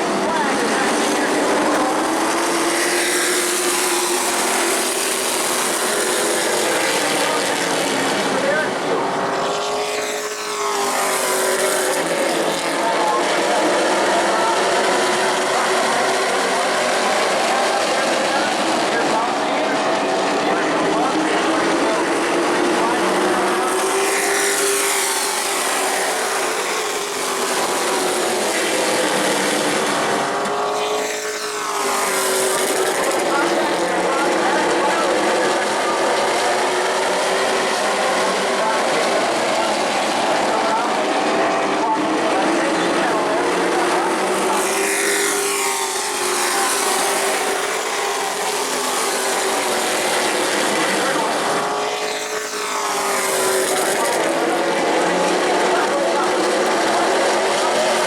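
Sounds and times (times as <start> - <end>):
race truck engines droning: 0.0 - 58.0.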